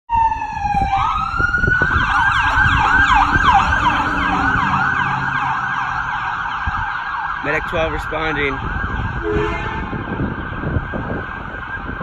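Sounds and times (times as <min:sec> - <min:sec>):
ambulance siren wailing and yelping: 0:00.1 - 0:12.0.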